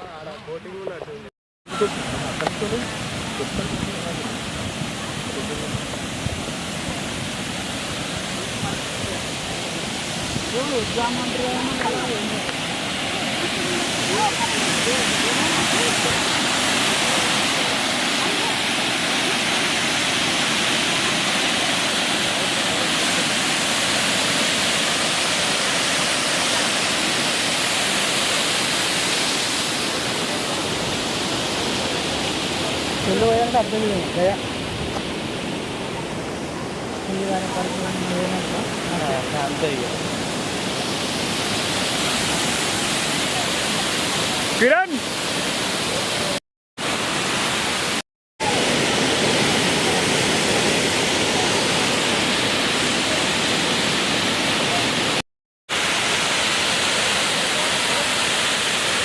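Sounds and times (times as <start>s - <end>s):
water rushing from a dam: 1.7s - 59.0s.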